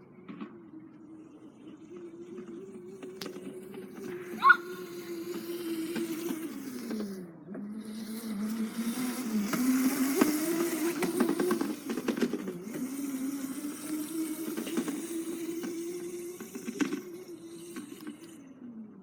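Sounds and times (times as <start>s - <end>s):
dirt bike engine whining: 0.0s - 19.0s
tyres crackling over ground: 1.7s - 18.4s.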